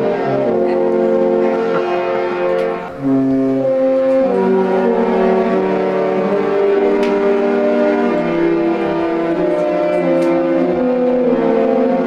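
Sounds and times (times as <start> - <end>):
ship horn playing a tune: 0.0 - 12.0.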